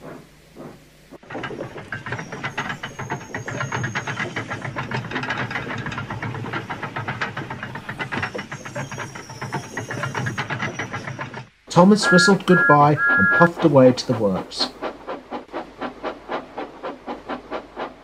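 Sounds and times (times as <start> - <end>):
steam locomotive chuffing: 0.0 - 18.0
steam hissing: 1.5 - 18.0.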